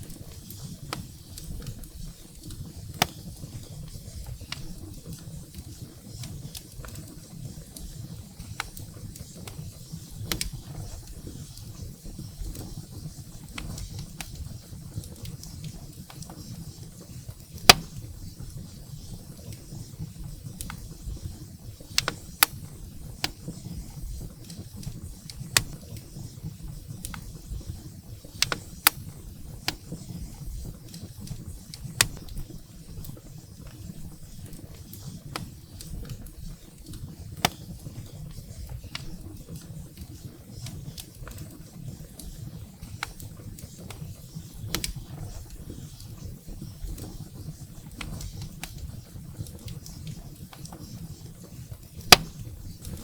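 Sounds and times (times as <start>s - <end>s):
firewood crackling and popping: 0.0s - 53.0s.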